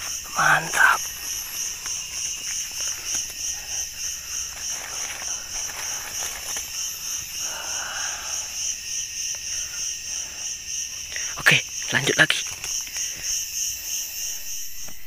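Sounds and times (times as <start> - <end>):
insects pulsing drone: 0.0 - 15.0.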